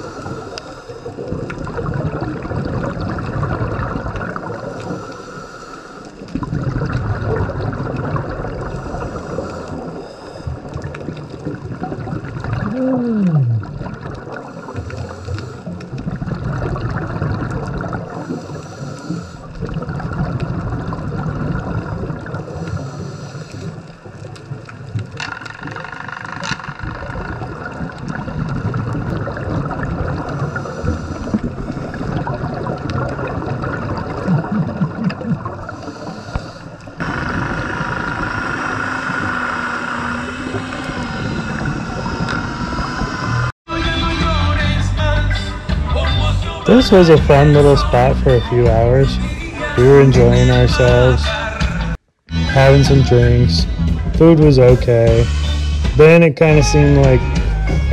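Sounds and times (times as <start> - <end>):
muffled underwater water gurgling: 0.0 - 43.5, 46.6 - 51.2, 52.6 - 55.3.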